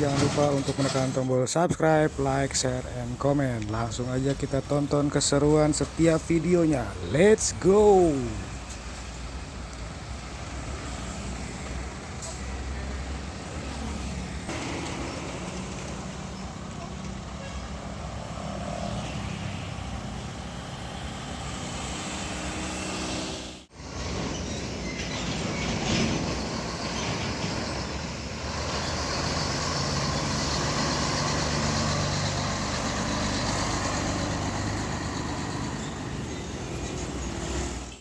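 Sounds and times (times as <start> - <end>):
diesel trucks driving past: 0.0 - 38.0
tyre and traffic noise: 0.0 - 38.0.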